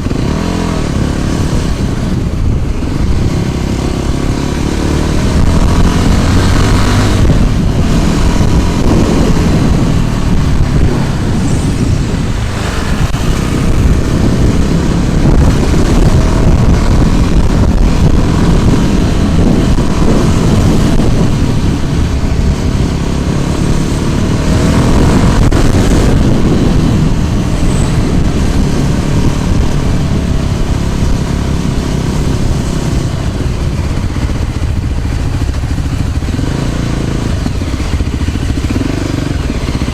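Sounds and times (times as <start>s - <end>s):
road traffic rumble: 0.0s - 39.9s
vehicles passing by: 0.0s - 39.9s.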